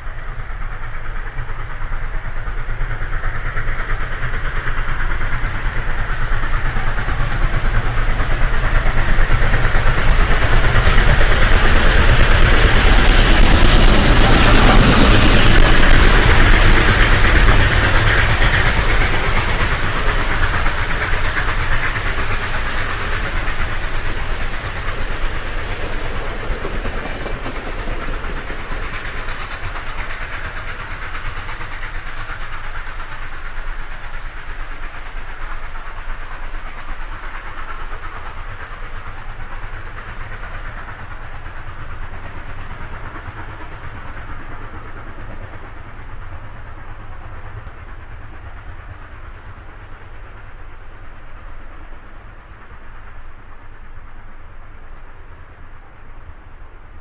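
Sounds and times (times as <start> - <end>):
train running: 0.0 - 57.0.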